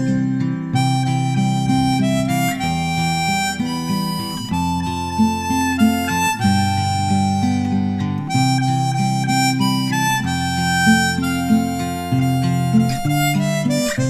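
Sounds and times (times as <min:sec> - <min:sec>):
reedy melody: 0:00.0 - 0:14.0.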